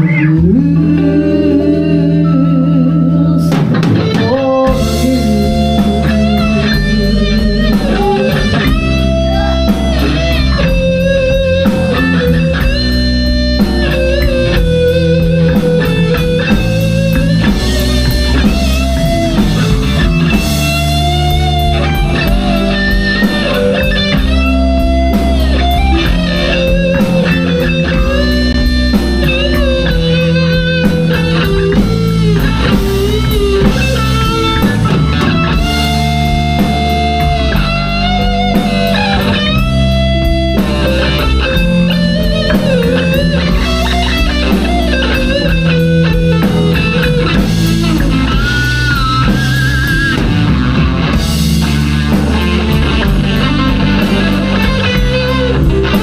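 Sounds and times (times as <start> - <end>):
bass and drums: 0.0 - 56.0
electric guitar lead: 0.0 - 56.0.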